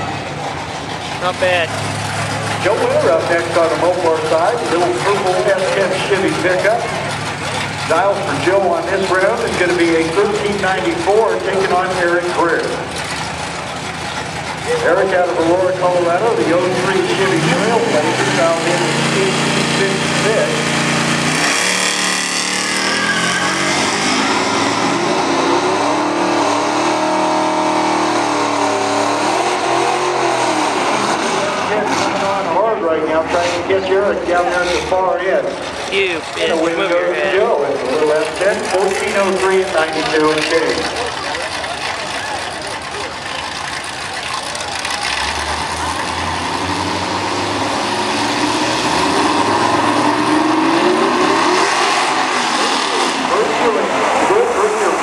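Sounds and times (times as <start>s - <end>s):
vehicles accelerating at full throttle: 0.0s - 55.0s.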